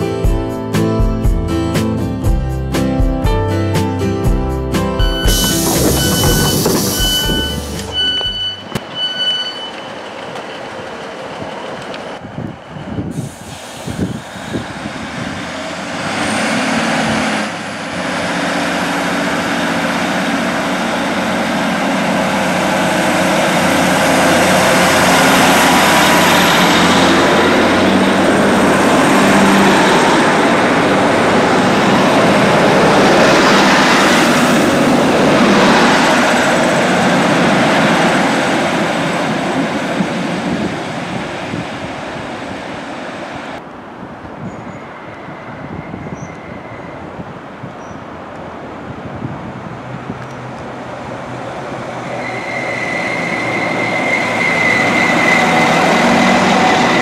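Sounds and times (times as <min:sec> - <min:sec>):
diesel train engine hum: 0:00.0 - 0:57.0.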